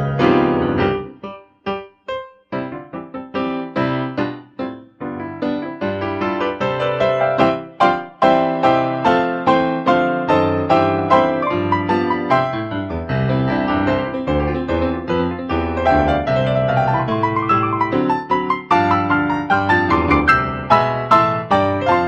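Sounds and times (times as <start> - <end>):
piano piece: 0.0 - 22.0.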